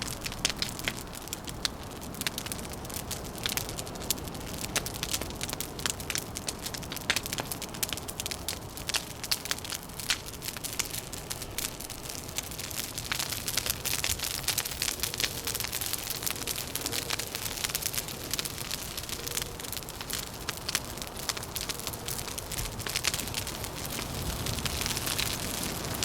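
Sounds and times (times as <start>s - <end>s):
low wind rumble: 0.0s - 26.0s
wood fire crackling: 0.0s - 26.0s.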